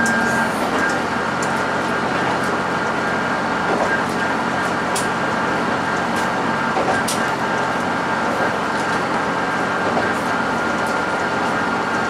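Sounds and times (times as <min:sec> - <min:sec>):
diesel railcar engine and running: 0:00.0 - 0:12.0.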